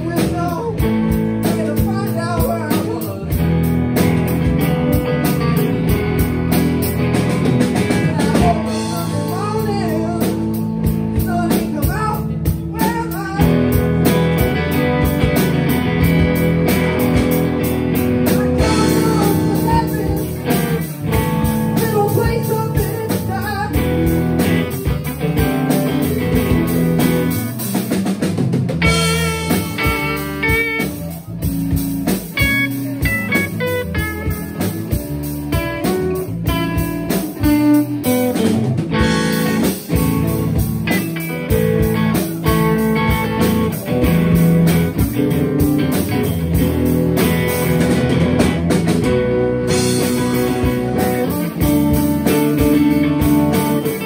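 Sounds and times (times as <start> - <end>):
blues band playing: 0.0 - 54.0
guitar bending lead lines: 0.0 - 54.0.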